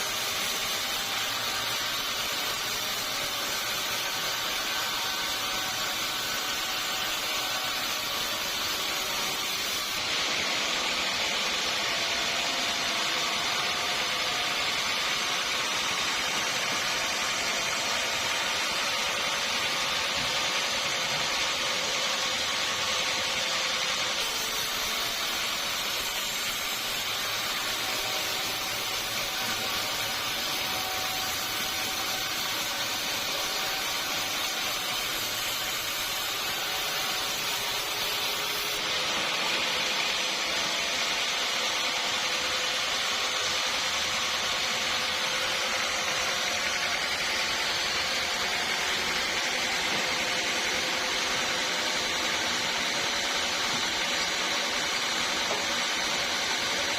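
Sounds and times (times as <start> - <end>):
sawmill saw running: 0.0 - 56.9.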